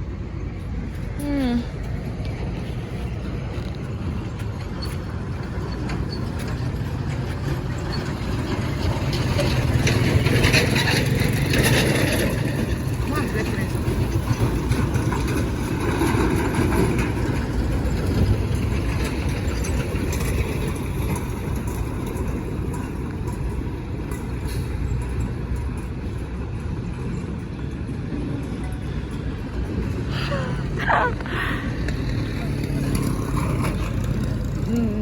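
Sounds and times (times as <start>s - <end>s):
motor vehicles rumbling: 0.0s - 35.0s.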